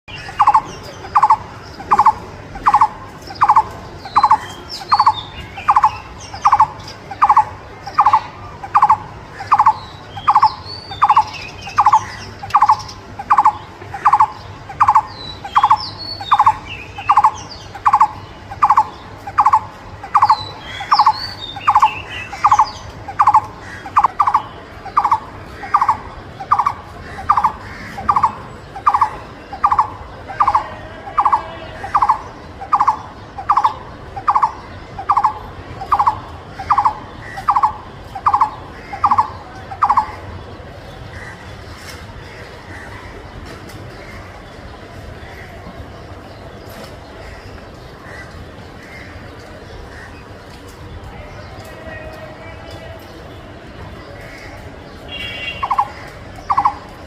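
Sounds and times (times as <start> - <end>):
other birds chirping faintly: 0.1 - 57.0.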